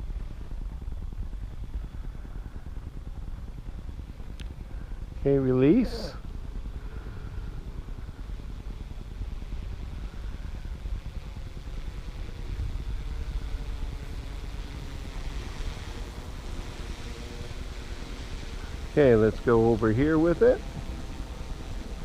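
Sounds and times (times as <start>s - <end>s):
drone propellers humming: 0.0s - 22.0s
wind rumbling on microphone: 0.0s - 22.0s.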